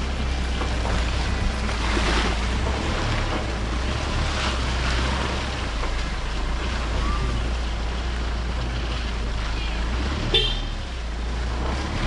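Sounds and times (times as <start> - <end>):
road and wind noise: 0.0 - 12.0
vehicle driving rumble: 0.0 - 12.0.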